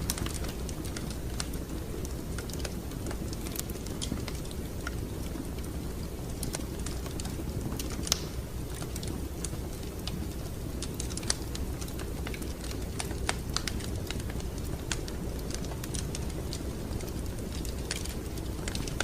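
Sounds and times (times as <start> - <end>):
low rumble of fire: 0.0 - 19.0
wood fire popping and snapping: 0.0 - 19.0.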